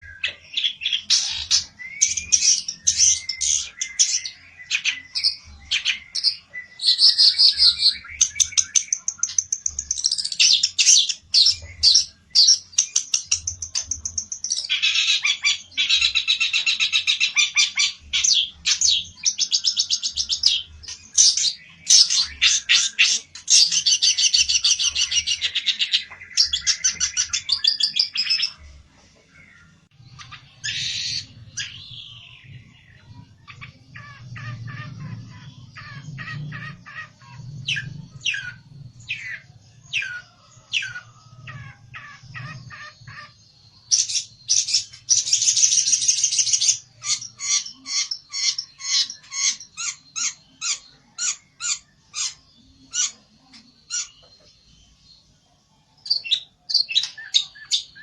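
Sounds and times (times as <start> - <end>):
songbird chattering trills: 0.0 - 55.3.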